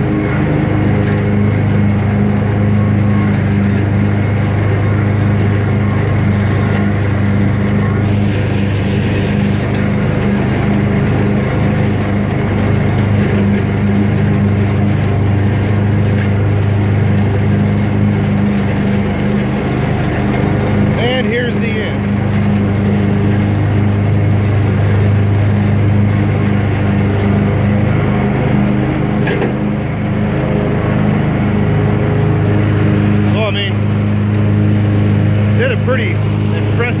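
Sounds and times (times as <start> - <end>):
mower engine humming: 0.0 - 37.0.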